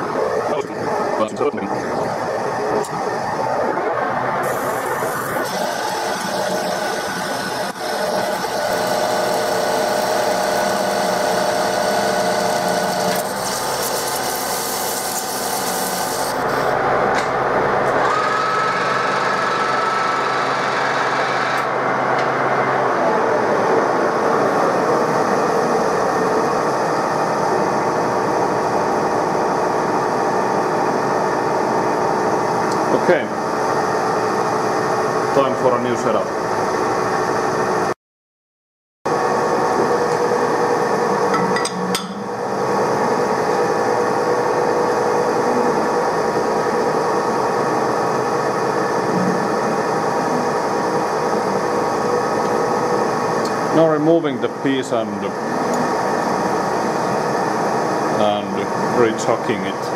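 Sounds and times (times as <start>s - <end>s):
lathe machine hum: 0.0s - 35.4s, 39.1s - 59.9s.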